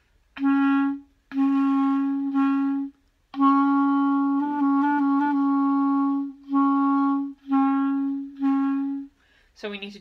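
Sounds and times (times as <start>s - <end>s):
clarinet playing held notes: 0.3s - 9.1s.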